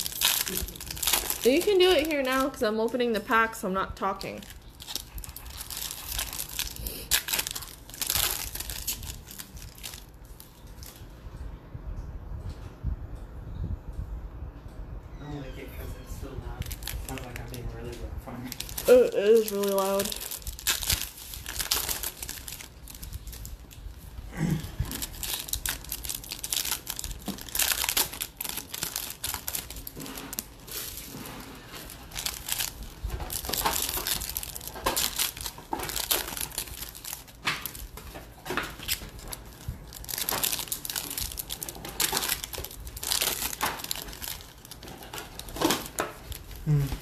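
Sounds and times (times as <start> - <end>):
foil wrappers crinkling and tearing: 0.0 - 11.0, 16.5 - 47.0.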